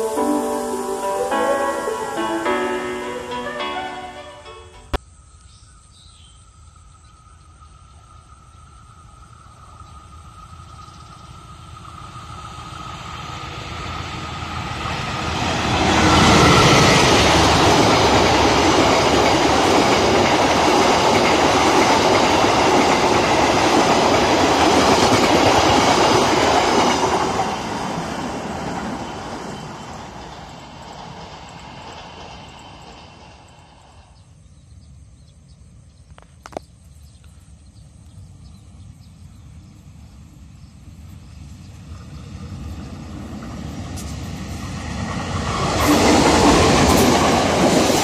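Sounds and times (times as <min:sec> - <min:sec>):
train passing at speed: 0:00.0 - 0:05.0, 0:07.7 - 0:35.9, 0:37.4 - 0:48.0.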